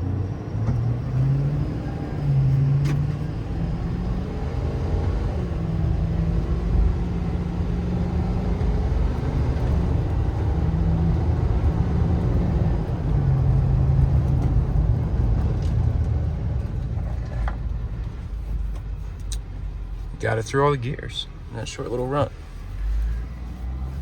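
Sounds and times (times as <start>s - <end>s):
diesel truck engine shifting gears: 0.0s - 24.0s
road rumble: 0.0s - 24.0s.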